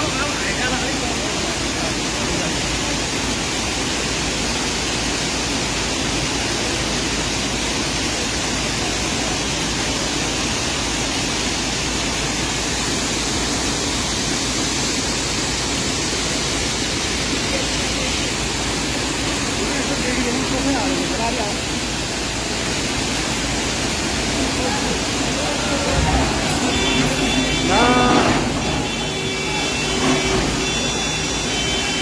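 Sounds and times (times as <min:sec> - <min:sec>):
rushing stream water: 0:00.0 - 0:32.0.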